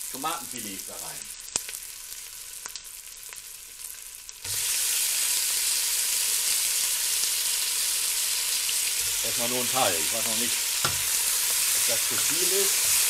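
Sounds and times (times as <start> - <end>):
loud steady frying hiss: 0.0 - 13.0
onions sizzling in oil: 0.0 - 13.0.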